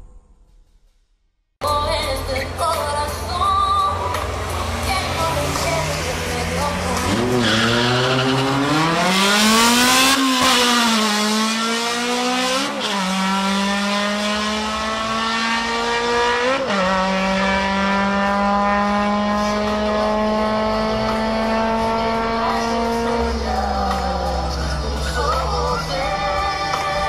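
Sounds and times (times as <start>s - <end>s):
race car engine at full throttle: 1.9s - 27.0s.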